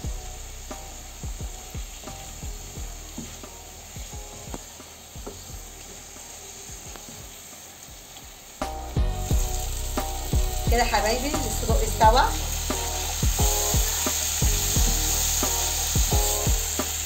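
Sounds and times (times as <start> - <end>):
sausages sizzling in a pan: 0.0 - 17.0.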